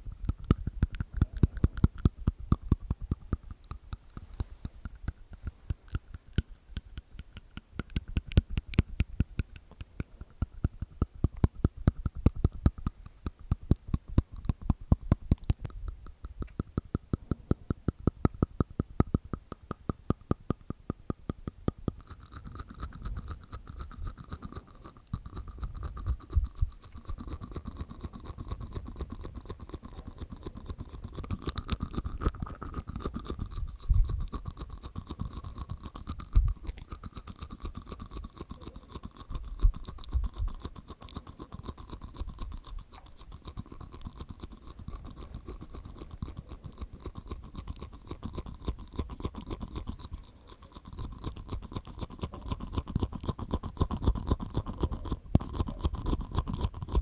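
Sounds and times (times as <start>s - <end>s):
wet tongue and teeth clicks: 0.0s - 57.0s.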